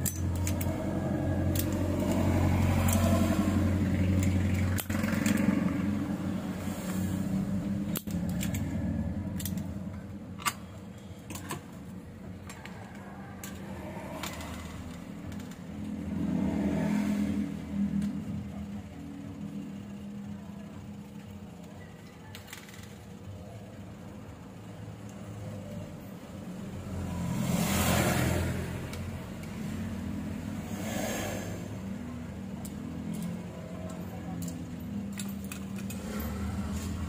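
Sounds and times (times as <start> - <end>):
motor vehicles going by: 0.0 - 22.3, 23.2 - 37.0.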